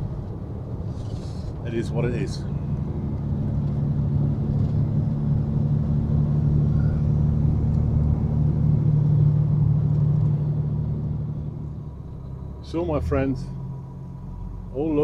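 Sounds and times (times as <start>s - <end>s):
diesel truck engine humming: 0.0s - 15.0s
road noise: 0.0s - 15.0s.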